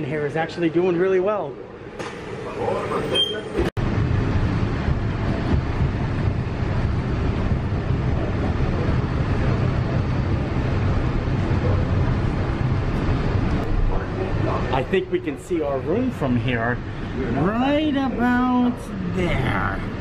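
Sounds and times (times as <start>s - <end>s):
monorail car rumble: 1.7s - 20.0s.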